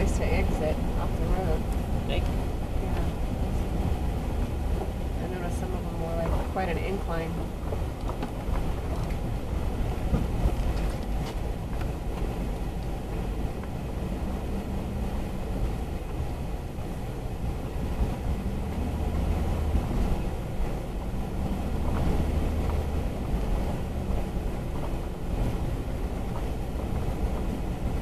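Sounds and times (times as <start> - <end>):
engine and tyres rumbling on gravel: 0.0 - 28.0.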